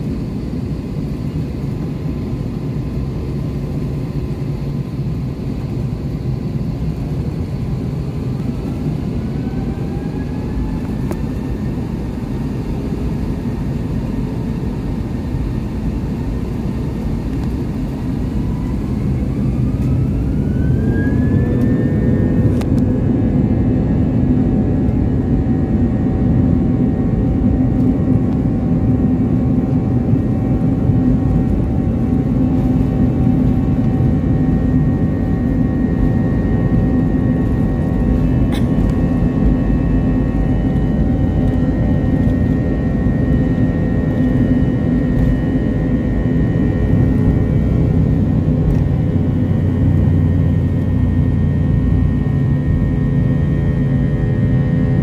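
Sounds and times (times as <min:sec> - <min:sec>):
jet engines rumbling and whining: 0:00.0 - 0:55.0.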